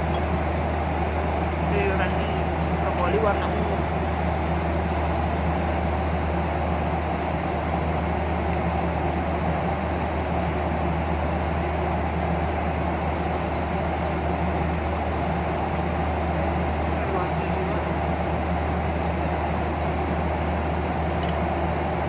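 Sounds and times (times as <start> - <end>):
airliner cabin engine drone: 0.0 - 22.0.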